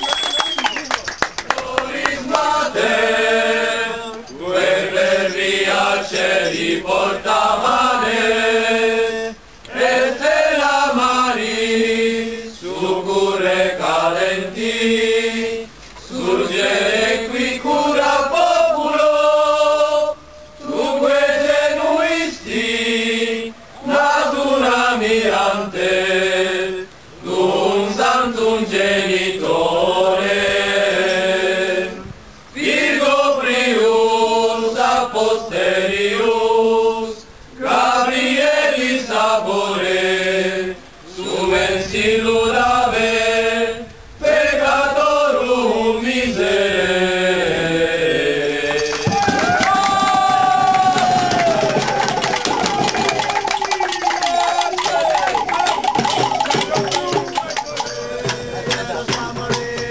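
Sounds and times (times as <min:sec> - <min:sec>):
voices singing a hymn: 0:01.4 - 0:59.9.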